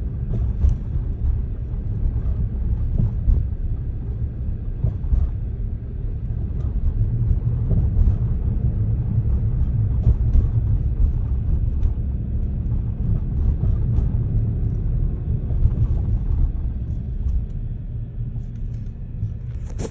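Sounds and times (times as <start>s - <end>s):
car engine low rumble: 0.0s - 19.9s.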